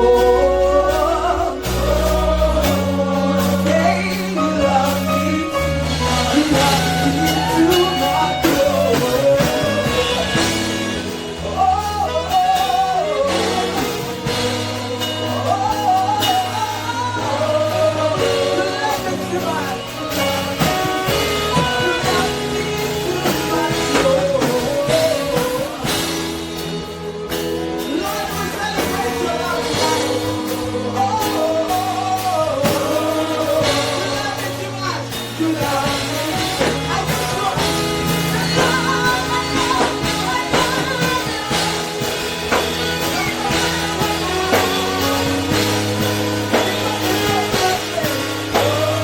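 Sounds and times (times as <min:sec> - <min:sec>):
drum kit: 0:00.0 - 0:49.0
guitar: 0:00.0 - 0:49.0
keyboard chords: 0:00.0 - 0:49.0
person singing wordless melody: 0:00.0 - 0:49.0.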